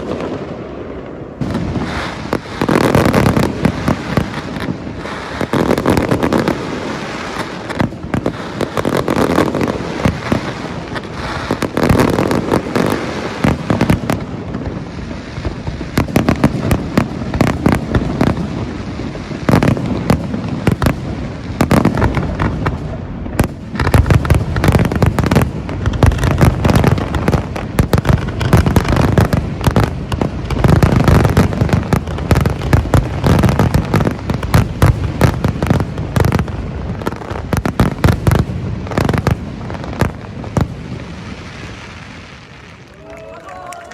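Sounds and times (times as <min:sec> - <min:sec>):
low fireworks booms: 0:00.0 - 0:43.3
fireworks bangs and crackling: 0:00.0 - 0:43.8.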